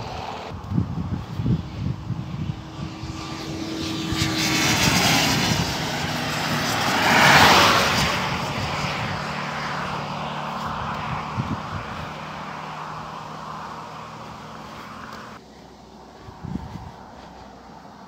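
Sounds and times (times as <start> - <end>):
car passing at speed: 0.0 - 18.0.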